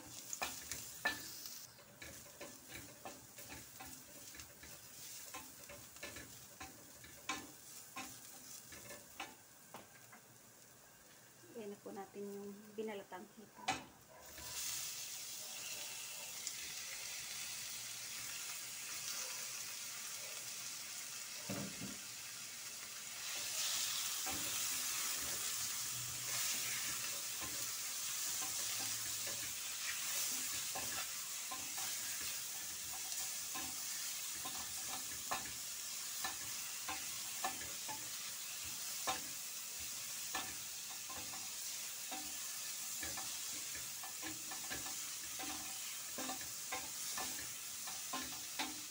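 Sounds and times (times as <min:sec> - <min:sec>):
shrimp sizzling in oil: 0:00.0 - 0:48.9.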